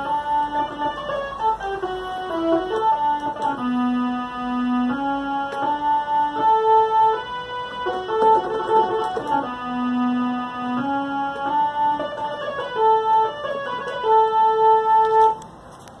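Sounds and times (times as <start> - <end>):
electronic keyboard notes: 0.0 - 15.6.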